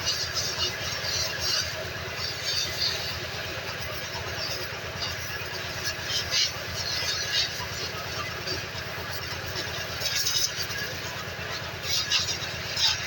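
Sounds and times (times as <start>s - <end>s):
clatter: 0.0s - 13.0s
small engine idling: 0.0s - 13.0s.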